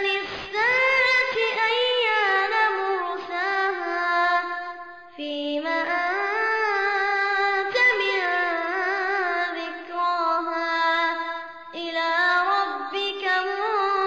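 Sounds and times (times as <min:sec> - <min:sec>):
child reciting melodically: 0:00.0 - 0:14.0.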